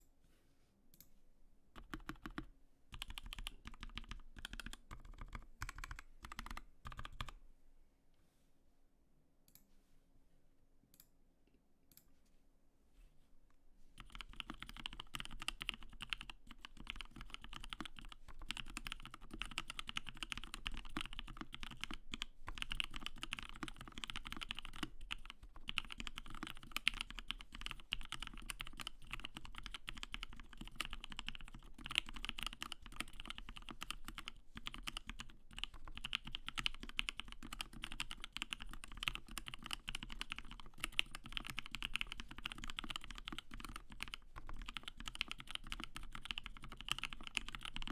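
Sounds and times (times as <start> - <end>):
fast typing on mechanical keyboard: 1.8 - 7.4, 14.0 - 47.9.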